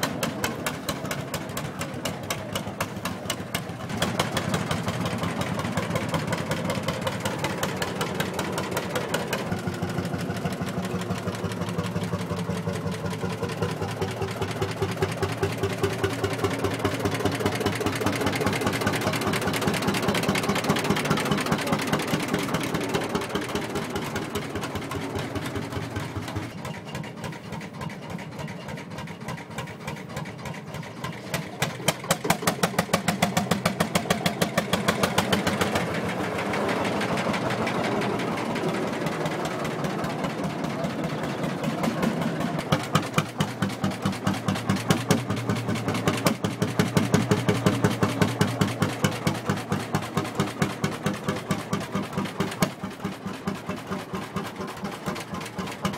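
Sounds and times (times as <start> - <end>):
tractor engine pulsing: 0.0 - 55.9.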